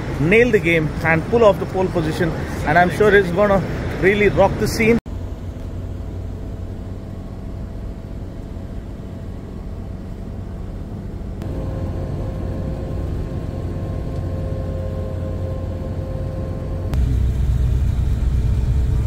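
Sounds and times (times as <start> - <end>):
engine and tyre rumble inside van: 0.0 - 19.0.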